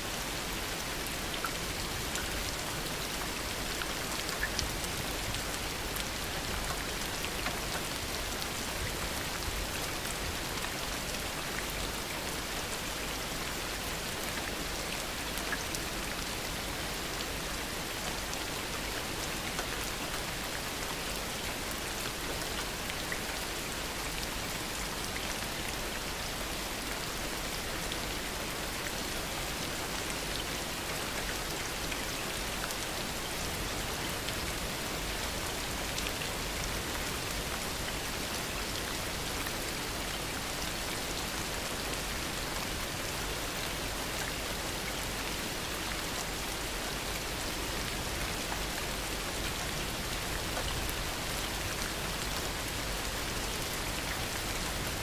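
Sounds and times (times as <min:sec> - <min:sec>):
raindrops ticking on surfaces: 0:00.2 - 0:55.0.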